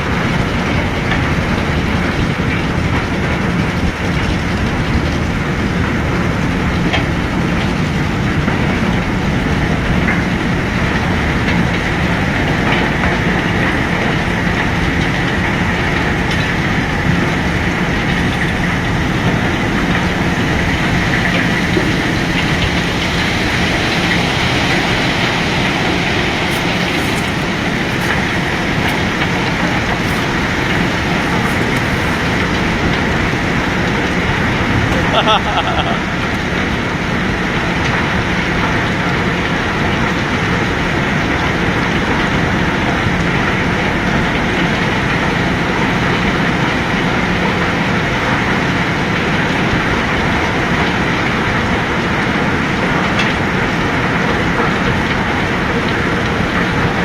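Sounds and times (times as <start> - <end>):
heavy machinery rumbling: 0.0 - 46.7.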